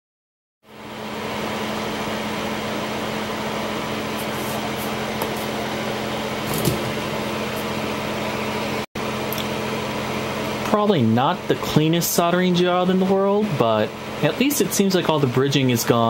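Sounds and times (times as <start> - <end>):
fan hum and hiss: 0.7 - 16.0.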